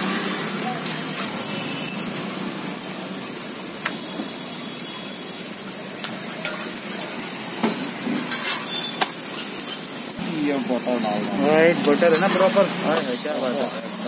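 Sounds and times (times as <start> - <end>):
flatbread sizzling on a griddle: 0.0 - 14.0.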